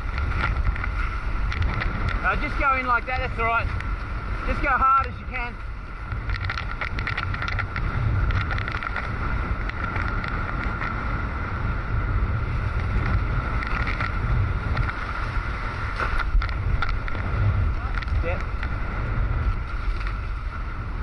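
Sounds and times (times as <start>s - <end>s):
water rushing past hulls: 0.0s - 21.0s
wind buffeting microphone: 0.0s - 21.0s.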